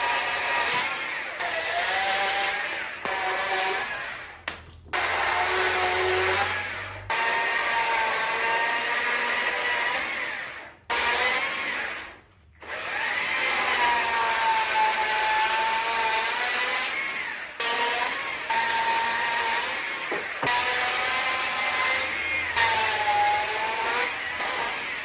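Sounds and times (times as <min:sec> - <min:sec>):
power carving tool whining: 0:00.0 - 0:25.0.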